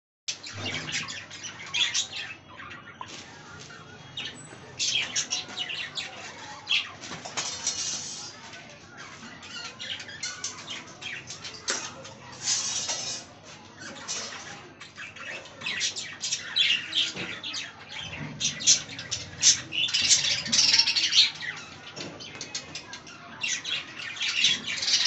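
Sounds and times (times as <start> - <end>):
budgerigars chirping and chattering: 0.3 - 25.0.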